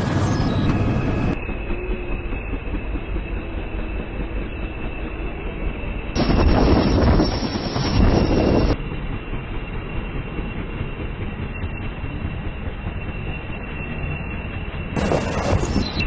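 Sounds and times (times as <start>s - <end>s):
high whine: 0.0s - 8.8s, 11.6s - 16.0s
helicopter rotor and engine rumble: 0.0s - 16.0s.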